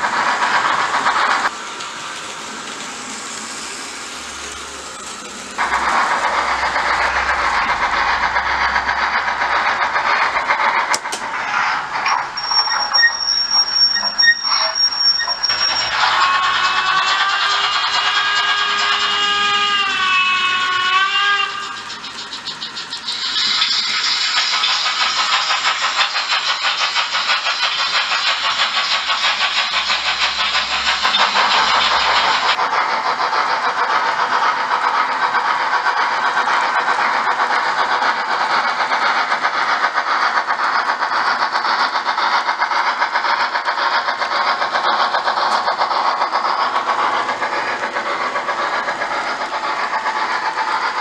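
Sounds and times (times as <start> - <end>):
model trains rattling on track: 0.0 - 51.0.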